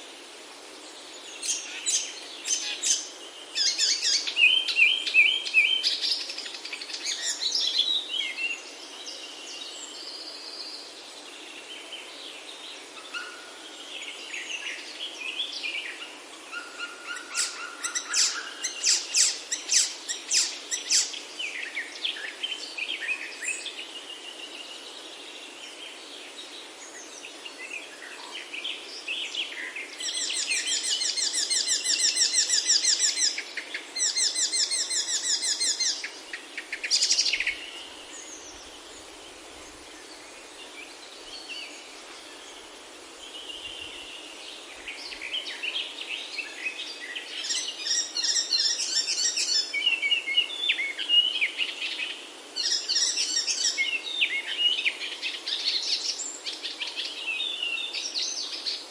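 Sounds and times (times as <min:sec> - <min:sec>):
steady background hiss: 0:00.0 - 0:58.9
birds singing and calling: 0:00.9 - 0:58.9.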